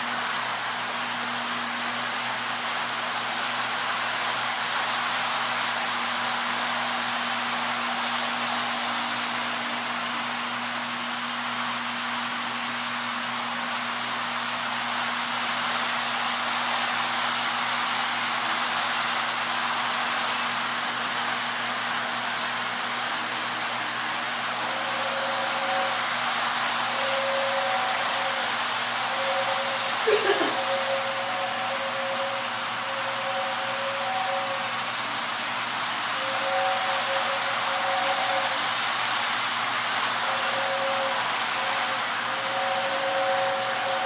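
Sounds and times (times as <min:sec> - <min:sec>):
model train rolling on rails: 0:00.0 - 0:44.0.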